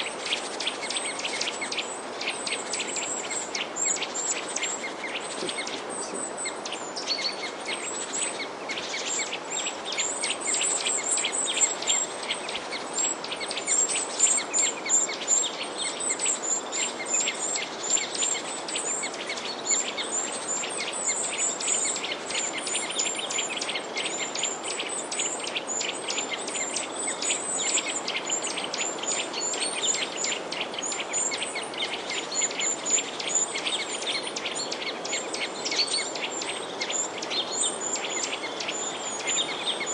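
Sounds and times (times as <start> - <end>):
small birds chirping: 0.0 - 39.9
steady background hiss: 0.0 - 39.9.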